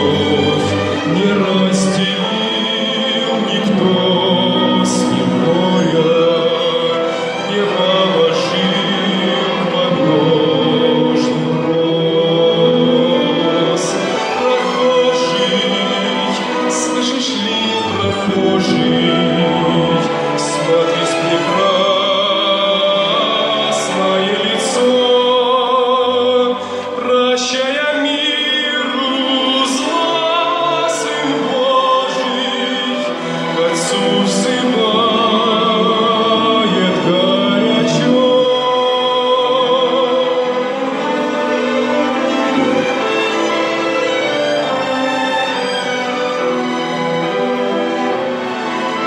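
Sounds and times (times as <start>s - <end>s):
chamber orchestra: 0.0s - 49.0s
operatic singer: 0.0s - 49.0s.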